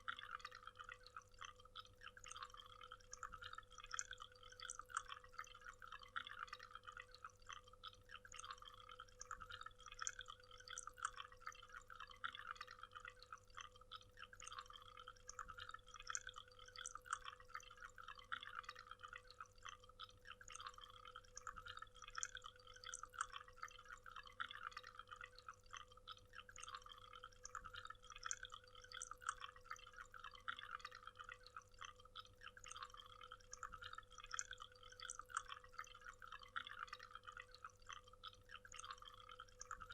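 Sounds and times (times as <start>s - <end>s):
faint steady hum: 0.0s - 39.9s
water splashing and trickling: 0.0s - 39.9s.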